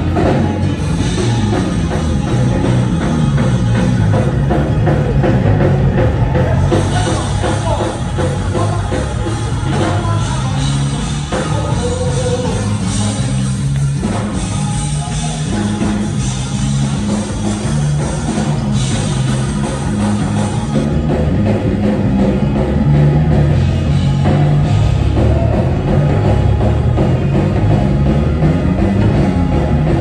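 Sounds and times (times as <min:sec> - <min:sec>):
gospel music with drums and bass: 0:00.0 - 0:30.0.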